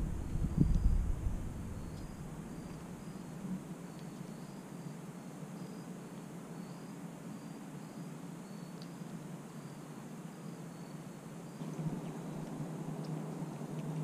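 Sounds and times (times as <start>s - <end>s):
faint low hum: 0.0s - 14.0s
insects chirping: 0.0s - 14.0s.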